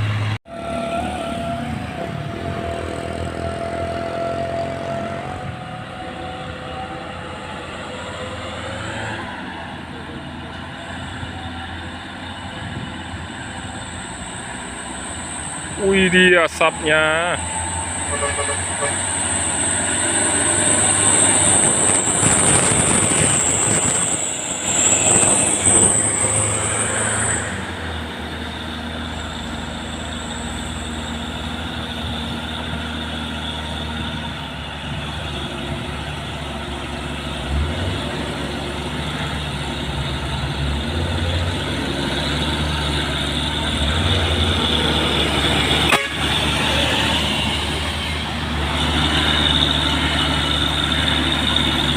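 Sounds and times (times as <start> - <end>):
diesel truck engine labouring: 0.0 - 51.9.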